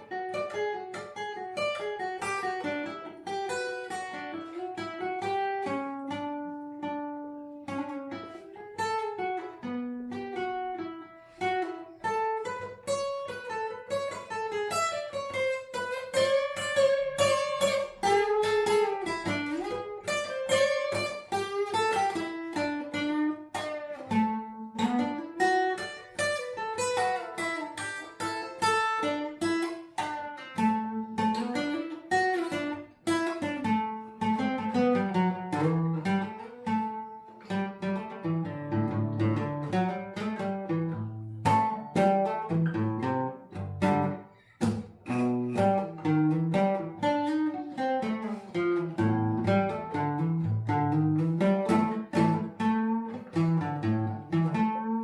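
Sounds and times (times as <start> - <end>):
acoustic guitar picking: 0.0 - 55.0.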